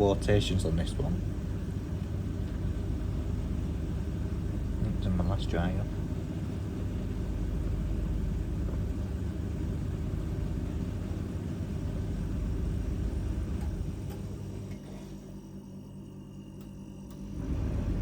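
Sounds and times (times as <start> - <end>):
tumble dryer drum turning: 0.0 - 15.0, 16.6 - 18.0.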